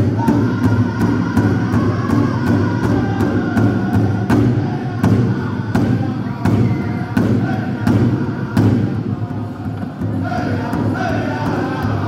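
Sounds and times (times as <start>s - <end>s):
large drum steady beat: 0.0s - 12.0s
voices singing: 0.0s - 12.0s.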